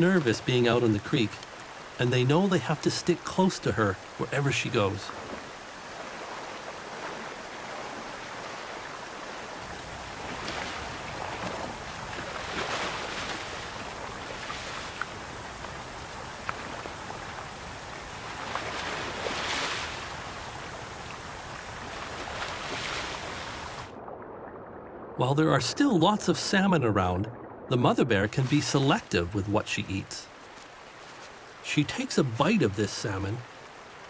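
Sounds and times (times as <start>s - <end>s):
water rushing over rocks: 0.0s - 24.0s, 25.2s - 34.0s.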